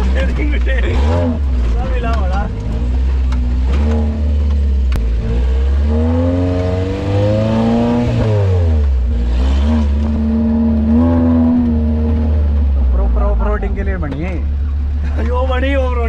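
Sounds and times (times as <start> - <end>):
petrol engine revving: 0.0 - 16.0.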